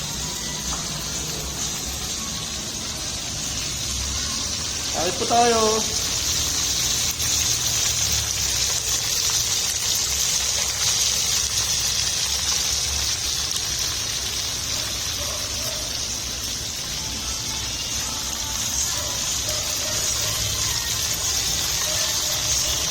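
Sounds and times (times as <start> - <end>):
chicken sizzling in hot oil: 0.0 - 22.9.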